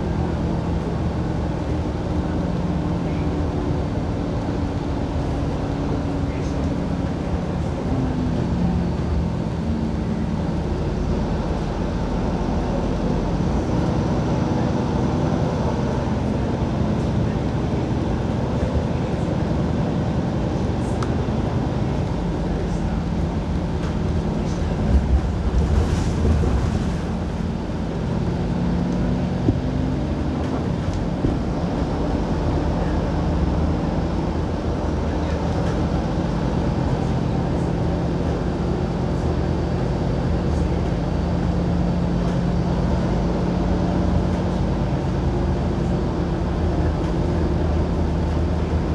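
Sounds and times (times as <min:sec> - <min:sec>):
bus engine drone: 0:00.0 - 0:48.9
road and tyre noise: 0:00.0 - 0:48.9.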